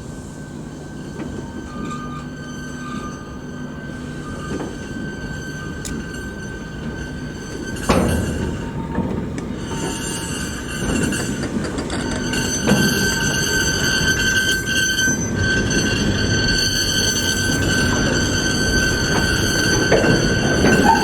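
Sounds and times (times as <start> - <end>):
train rumble: 0.0 - 21.0
train wheel squeal: 0.0 - 21.0.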